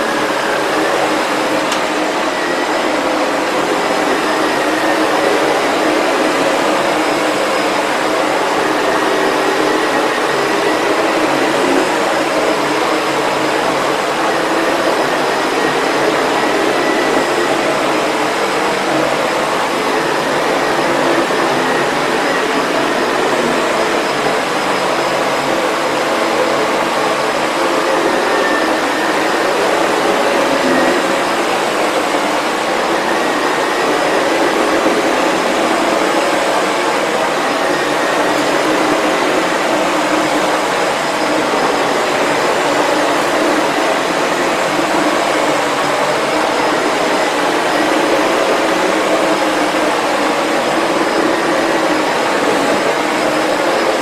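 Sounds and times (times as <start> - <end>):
upright vacuum cleaner running: 0.0 - 54.0.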